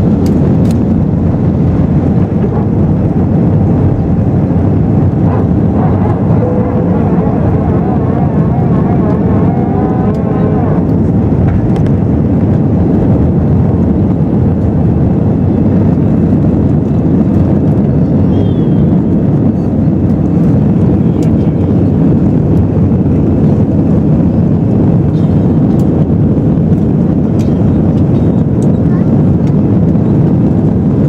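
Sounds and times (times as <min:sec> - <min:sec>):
airflow over fuselage: 0:00.0 - 0:31.0
airplane cabin engine roar: 0:00.0 - 0:31.0.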